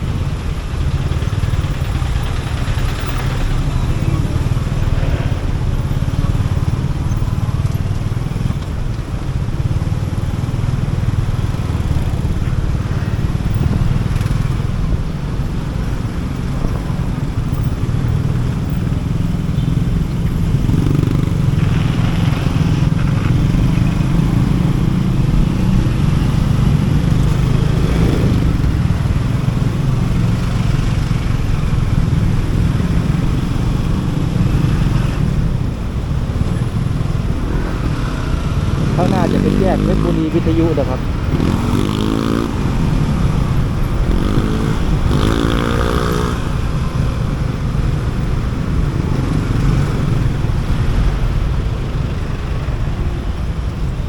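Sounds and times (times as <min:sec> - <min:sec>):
motorcycle engine rumble: 0:00.0 - 0:54.0.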